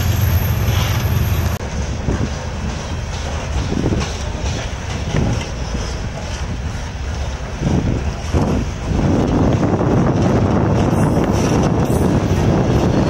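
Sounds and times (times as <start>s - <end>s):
steel wheels rumbling on rail: 0.0s - 13.0s
wheels clunking over rail joints: 0.0s - 13.0s.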